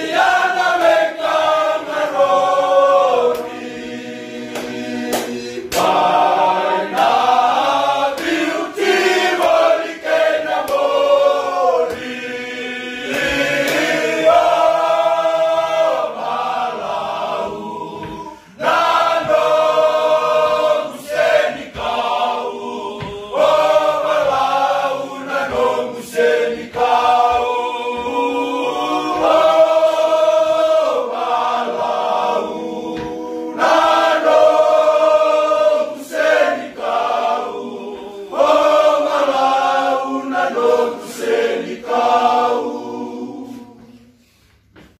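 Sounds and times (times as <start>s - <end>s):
men singing unaccompanied: 0.0s - 44.1s.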